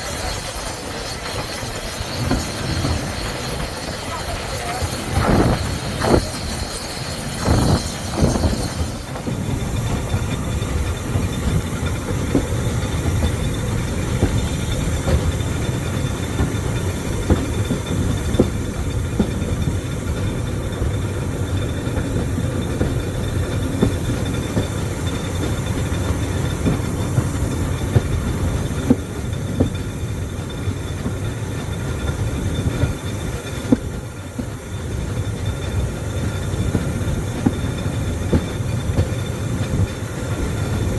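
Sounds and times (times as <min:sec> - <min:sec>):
knocks and clicks over rail joints: 0:00.0 - 0:40.9
wheels rumbling on track: 0:00.0 - 0:40.9.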